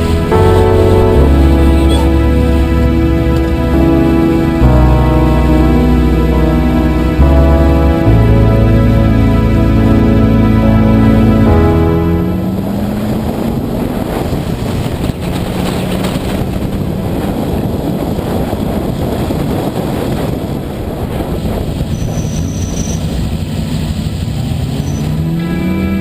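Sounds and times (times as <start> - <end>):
car engine at speed: 0.0 - 26.0
wind and road noise: 0.0 - 26.0.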